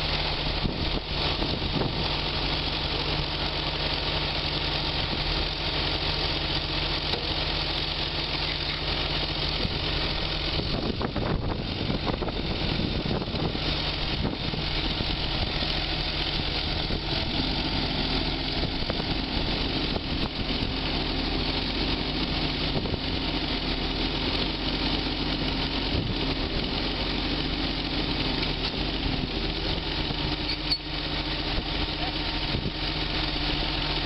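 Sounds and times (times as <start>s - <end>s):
heavy diesel machinery running: 0.0s - 34.0s
steady drone: 0.0s - 34.0s.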